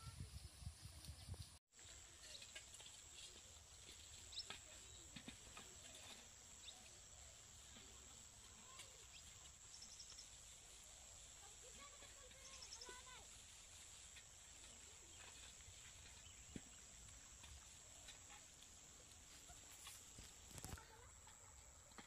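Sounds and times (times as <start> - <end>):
steady hiss: 1.8 - 22.0.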